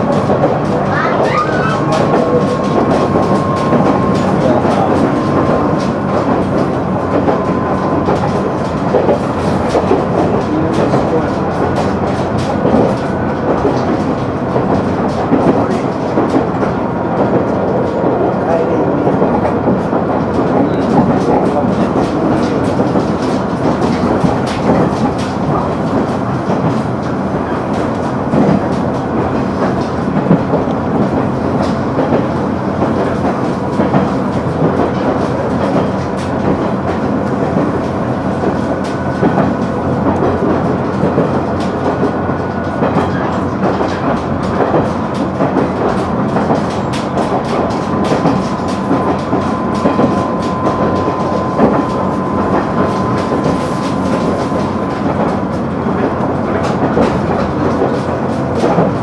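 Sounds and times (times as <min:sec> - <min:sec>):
train engine and wheels rumbling: 0:00.0 - 0:59.0.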